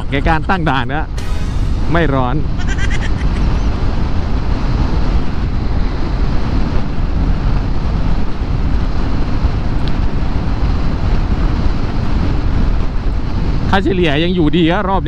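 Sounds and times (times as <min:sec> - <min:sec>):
road and engine noise: 0:00.0 - 0:15.0
wind rushing over microphone: 0:00.0 - 0:15.0.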